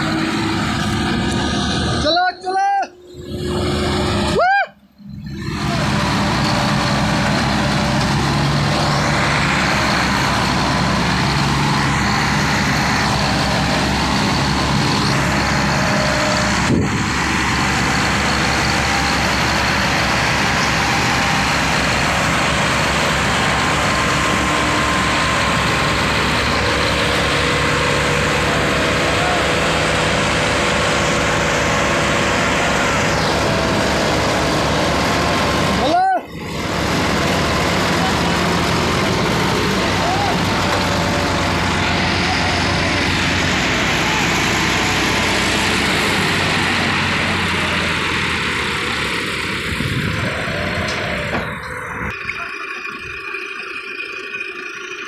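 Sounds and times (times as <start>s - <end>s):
tractor diesel engines under load: 0.0s - 55.0s.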